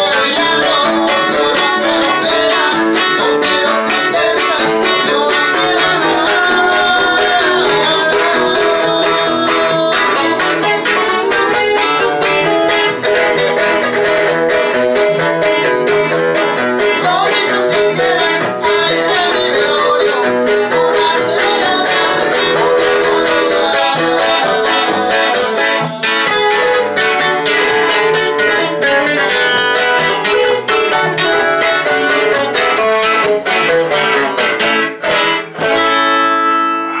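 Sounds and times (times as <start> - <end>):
acoustic guitars strumming: 0.0 - 37.0.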